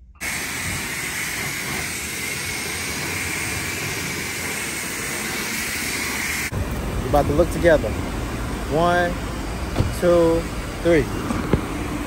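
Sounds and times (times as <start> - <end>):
rushing hiss of air or spray: 0.2 - 11.0.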